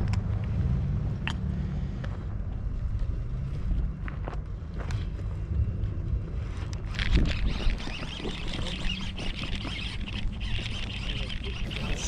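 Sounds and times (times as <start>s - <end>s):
wind buffeting microphone: 2.2s - 12.0s.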